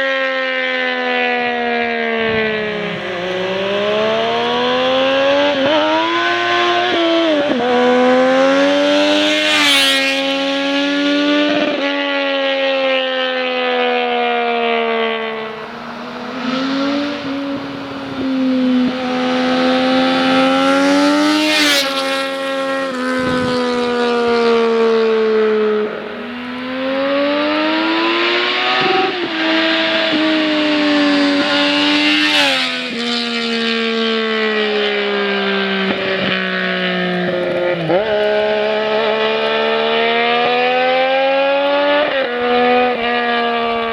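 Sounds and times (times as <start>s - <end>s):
loud motorcycle engine revving: 0.0s - 43.9s.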